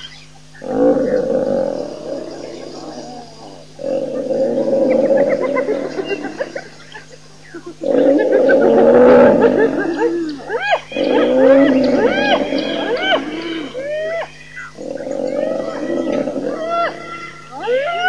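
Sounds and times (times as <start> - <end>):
hyenas yelping and squealing: 0.0 - 18.0
lioness growling and snarling: 0.6 - 6.9, 7.8 - 13.9, 14.8 - 17.6.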